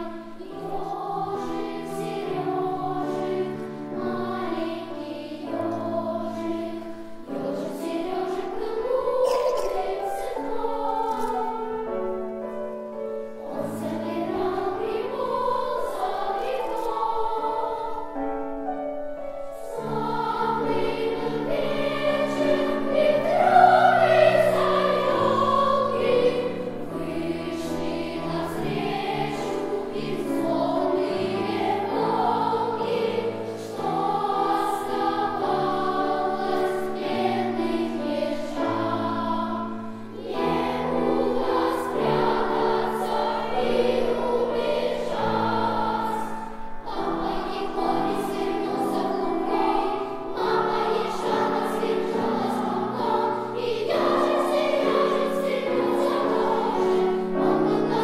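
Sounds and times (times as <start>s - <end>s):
girls' choir singing: 0.0s - 58.0s.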